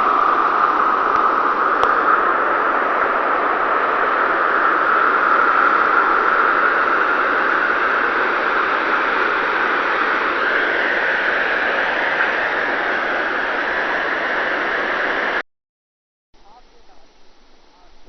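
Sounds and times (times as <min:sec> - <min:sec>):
river rushing: 0:00.0 - 0:15.4.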